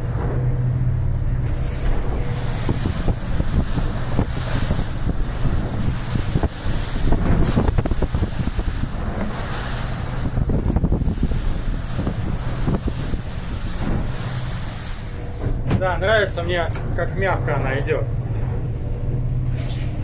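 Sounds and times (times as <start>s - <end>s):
wind buffeting microphone: 0.0s - 17.0s
boat engine running: 0.0s - 20.0s
waves breaking against hull: 0.0s - 20.0s.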